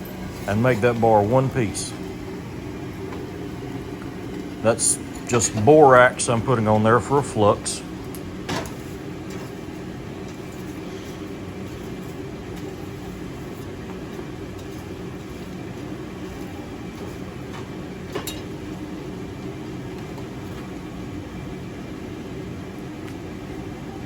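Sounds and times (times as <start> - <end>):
forge fire rumbling: 0.0 - 24.0.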